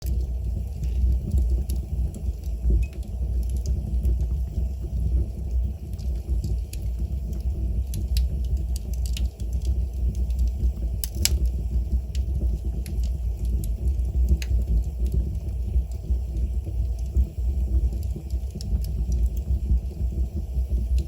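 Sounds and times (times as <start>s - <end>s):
burning wood crackling and popping: 0.0s - 21.0s
fire burning in a fireplace: 0.0s - 21.0s.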